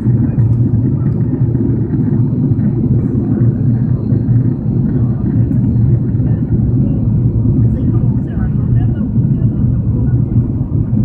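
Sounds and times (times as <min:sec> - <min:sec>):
airliner engines rumbling in cabin: 0:00.0 - 0:11.0.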